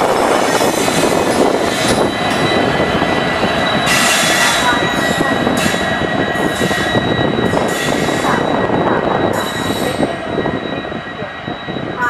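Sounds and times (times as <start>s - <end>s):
diesel locomotive engine rumble: 0.0s - 12.0s
high-pitched whine: 0.0s - 12.0s.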